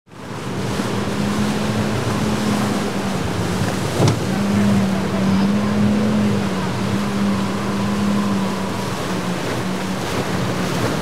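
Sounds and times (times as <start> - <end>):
outboard motorboat engine: 0.1 - 11.0
rushing water: 0.1 - 11.0.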